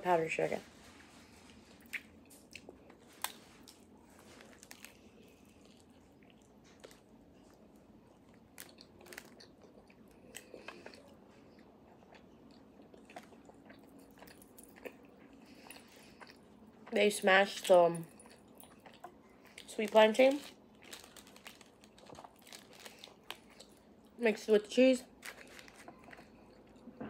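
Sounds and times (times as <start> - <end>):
crunchy chewing: 1.3 - 17.0, 18.1 - 24.2, 25.0 - 26.9.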